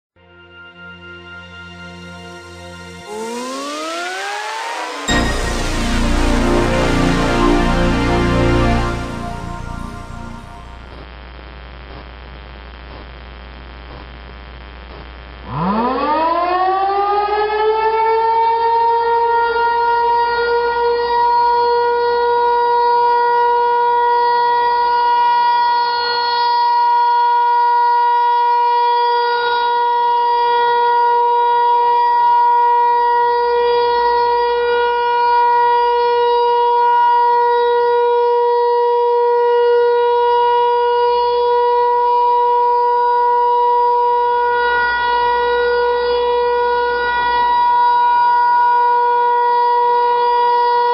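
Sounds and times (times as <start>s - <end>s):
electronic tornado siren: 0.2s - 11.0s, 15.5s - 50.9s.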